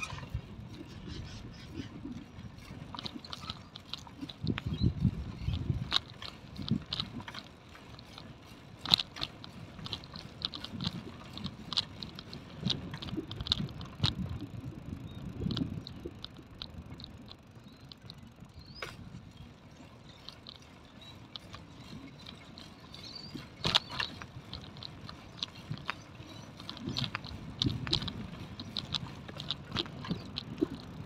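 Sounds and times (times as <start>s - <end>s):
bicycle clicks and rattles: 0.0s - 31.0s
bicycle tyre rumble on concrete: 0.0s - 31.0s.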